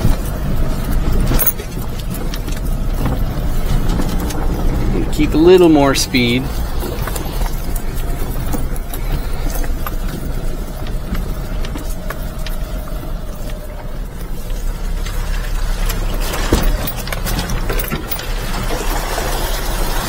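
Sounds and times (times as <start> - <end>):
van engine running: 0.0 - 20.0
van rattling and knocking: 0.0 - 20.0.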